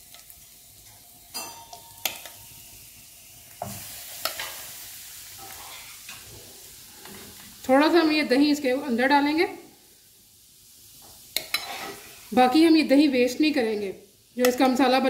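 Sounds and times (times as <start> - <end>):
chicken sizzling in frying pan: 0.0 - 15.0.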